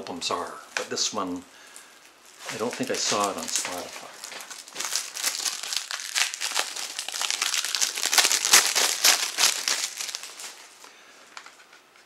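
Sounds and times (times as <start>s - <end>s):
cellophane crackling: 0.5s - 11.6s.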